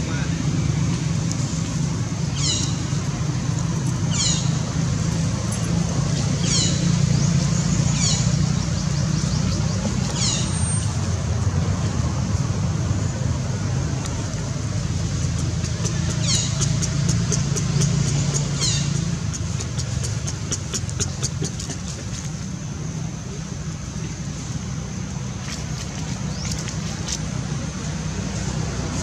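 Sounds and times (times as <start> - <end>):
traffic drone: 0.0 - 29.0.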